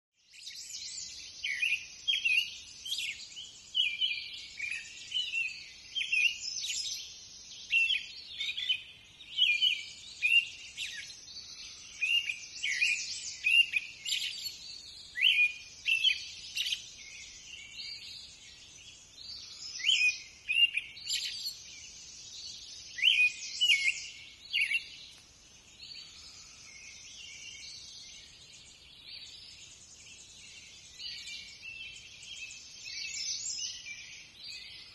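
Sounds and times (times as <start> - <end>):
songbirds chirping and singing: 0.2 - 34.9.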